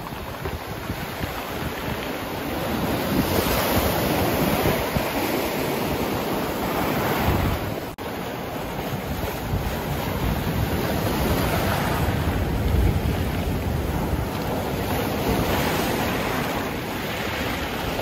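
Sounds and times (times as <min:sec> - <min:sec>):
surf breaking on rocks: 0:00.0 - 0:18.0
wind rumbling on microphone: 0:00.0 - 0:18.0.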